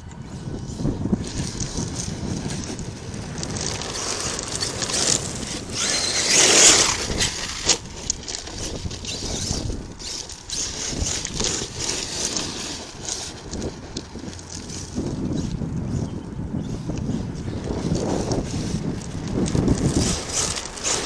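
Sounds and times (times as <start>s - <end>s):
high motor whine: 0.0s - 21.0s
tyres on gravel: 0.0s - 21.0s
wind on the microphone: 0.0s - 21.0s.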